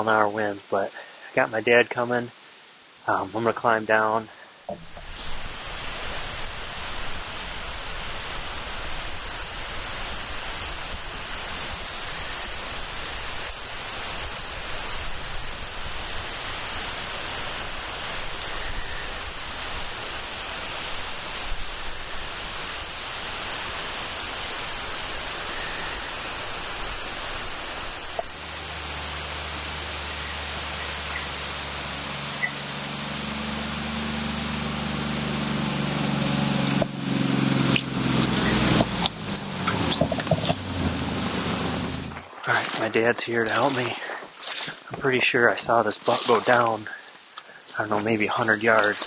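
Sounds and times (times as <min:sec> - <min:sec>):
strong wind through woods: 0:00.0 - 0:49.0.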